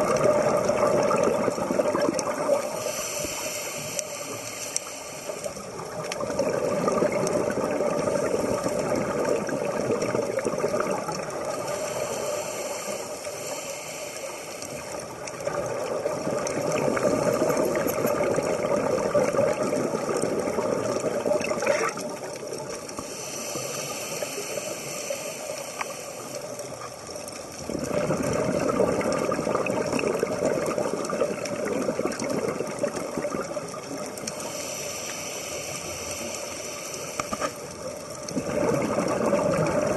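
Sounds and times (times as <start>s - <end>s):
exhaled bubbles underwater: 0.0s - 13.6s, 14.3s - 39.9s.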